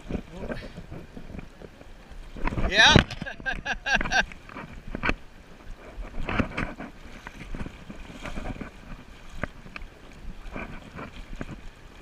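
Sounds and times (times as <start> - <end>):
river water running and splashing: 0.0 - 12.0.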